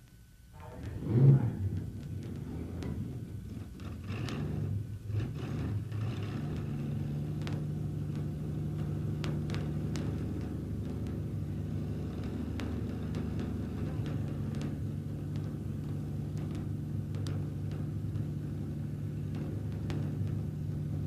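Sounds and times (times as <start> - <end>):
engine idling: 0.6 - 21.0.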